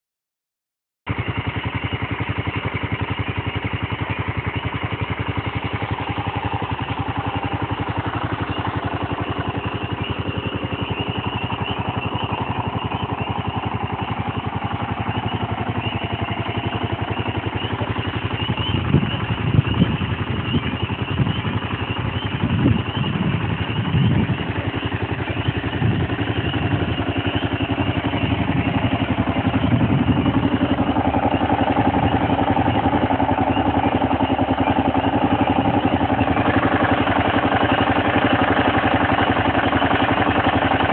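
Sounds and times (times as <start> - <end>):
motorcycle engine idling: 1.1 - 40.9.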